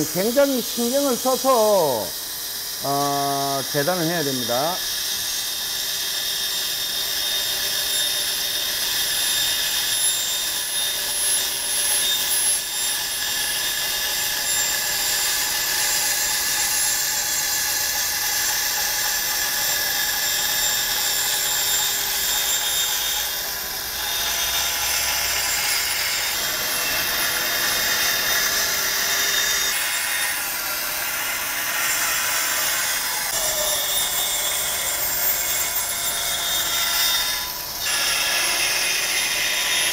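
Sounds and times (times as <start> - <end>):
band saw whine: 0.0 - 39.9
saw cutting plywood: 2.8 - 39.9.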